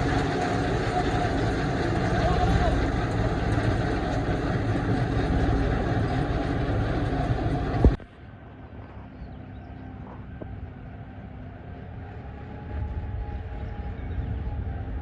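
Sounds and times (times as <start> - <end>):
harvester machine running: 0.0 - 15.0
low hum and drone: 0.0 - 15.0.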